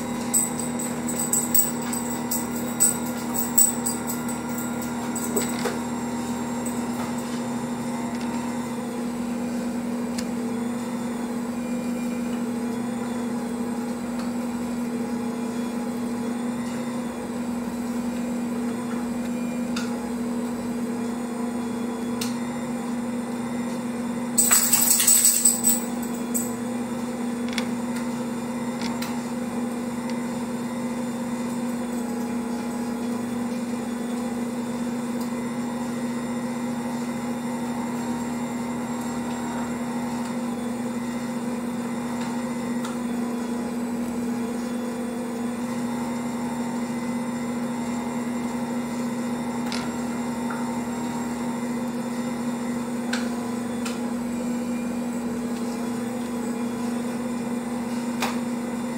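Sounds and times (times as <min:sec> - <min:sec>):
stand mixer motor humming: 0:00.0 - 0:24.7, 0:25.5 - 0:58.9.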